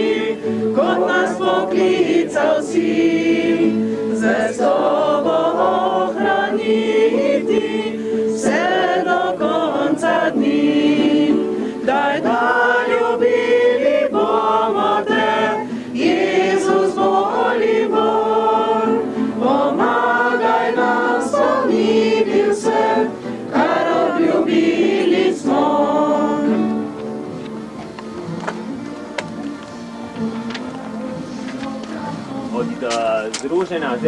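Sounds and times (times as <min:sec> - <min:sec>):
group singing a hymn: 0:00.0 - 0:34.0.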